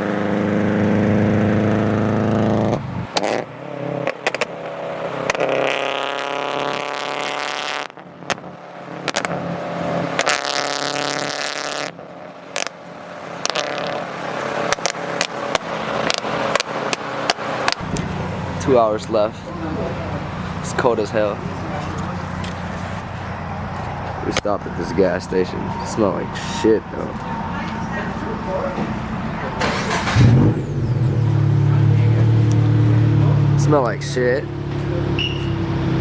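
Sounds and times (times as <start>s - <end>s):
car engines accelerating: 0.0s - 36.0s.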